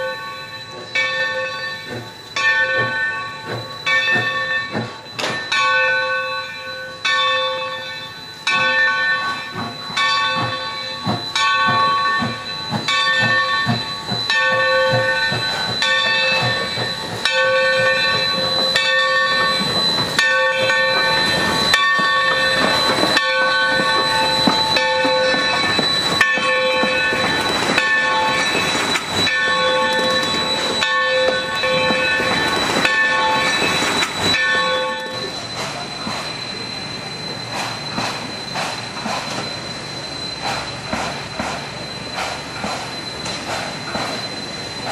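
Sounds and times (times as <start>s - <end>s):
locomotive bell ringing: 0.0s - 44.9s
steam hiss: 8.0s - 44.9s.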